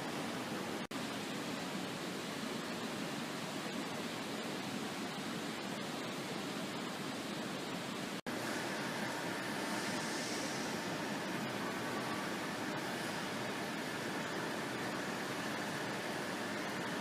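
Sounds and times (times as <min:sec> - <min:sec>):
faint steady whine: 0:00.0 - 0:17.0
steady rushing noise: 0:00.0 - 0:17.0.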